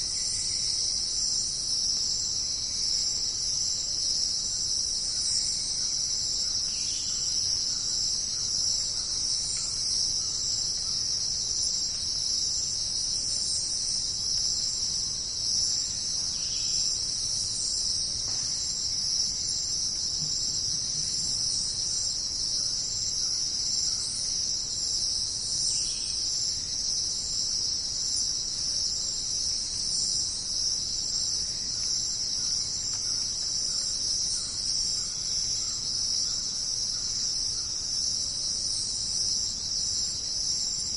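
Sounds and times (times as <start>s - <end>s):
insects shrill trilling: 0.0s - 40.9s.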